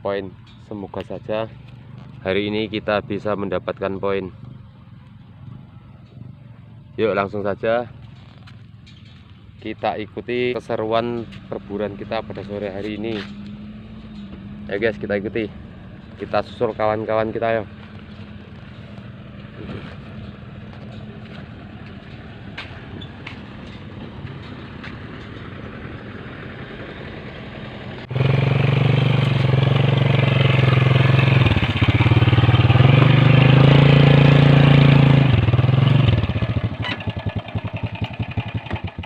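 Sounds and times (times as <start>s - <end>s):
motorcycle engine running: 0.4s - 39.0s.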